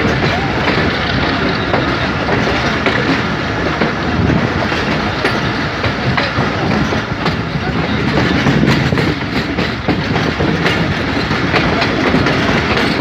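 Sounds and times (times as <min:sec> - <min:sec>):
train running noise: 0:00.0 - 0:13.0
wheels clacking over rail joints: 0:00.0 - 0:13.0.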